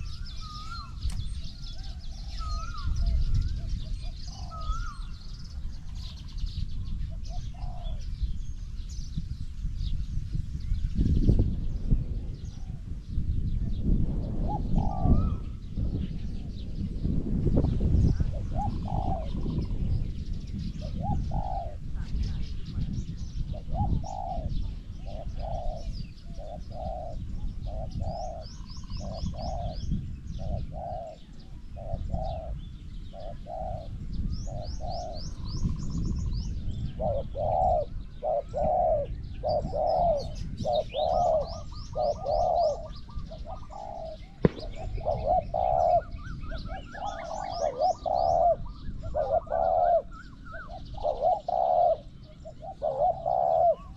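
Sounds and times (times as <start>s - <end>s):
dove cooing: 0.0s - 8.1s, 14.2s - 16.6s, 17.7s - 53.9s
small birds chirping: 0.0s - 53.9s
wind rumbling on microphone: 0.0s - 53.9s.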